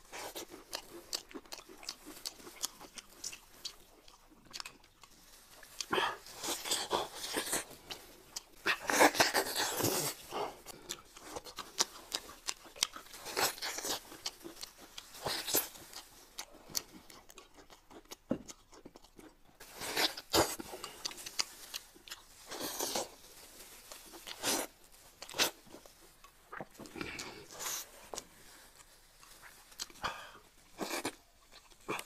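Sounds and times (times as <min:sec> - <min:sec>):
wet chewing and biting: 0:00.0 - 0:32.0.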